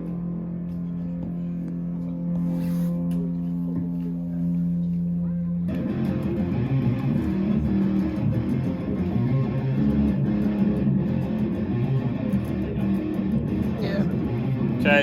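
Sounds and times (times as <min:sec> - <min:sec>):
amplified guitar playing: 0:00.0 - 0:15.0.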